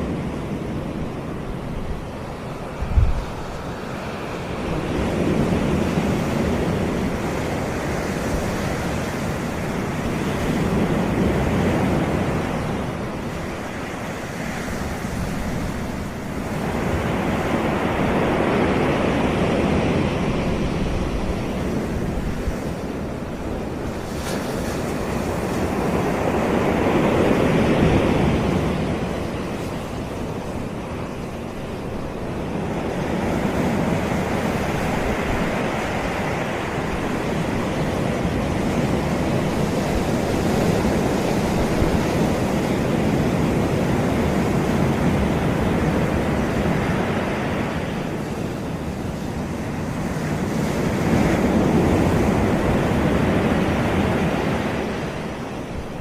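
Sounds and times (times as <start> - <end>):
surf breaking on beach: 0.0 - 56.0.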